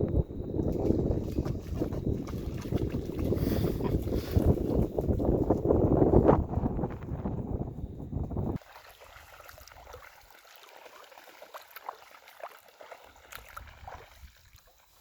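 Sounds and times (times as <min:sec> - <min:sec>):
water trickling: 0:00.4 - 0:06.1, 0:08.6 - 0:15.0.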